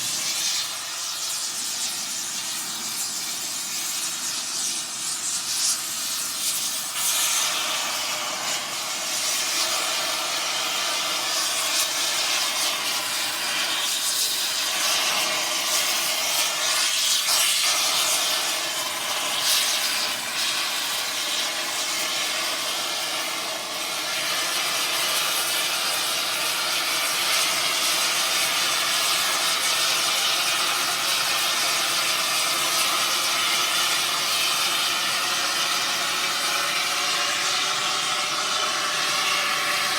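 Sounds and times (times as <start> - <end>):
air torch hissing: 0.0 - 39.9.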